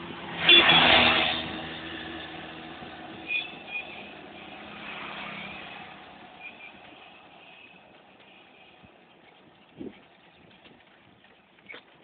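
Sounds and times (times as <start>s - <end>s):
engine and tyre noise: 0.0s - 12.0s.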